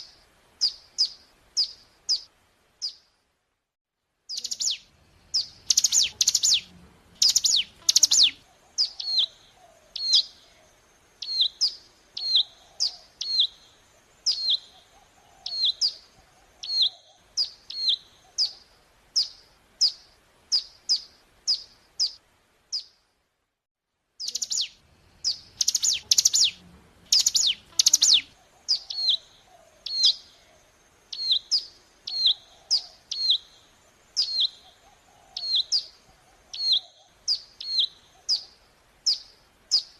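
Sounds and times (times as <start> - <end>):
bird chirping calls: 0.0 - 3.1, 4.3 - 23.0, 24.2 - 39.9.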